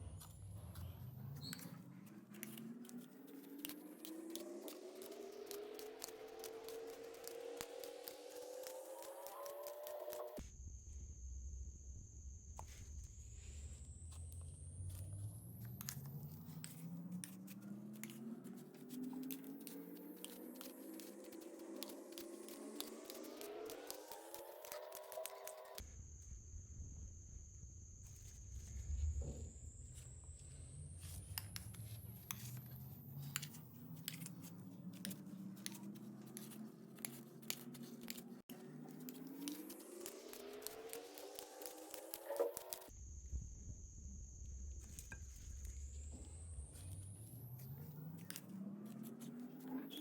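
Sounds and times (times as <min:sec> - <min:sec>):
faint hum: 0:00.0 - 0:36.1, 0:38.5 - 0:50.0.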